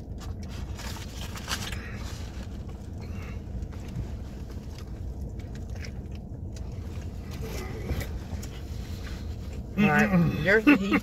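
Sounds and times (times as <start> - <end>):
faint eating rustles and clicks: 0.0 - 10.1
low rumble inside car: 0.0 - 11.0.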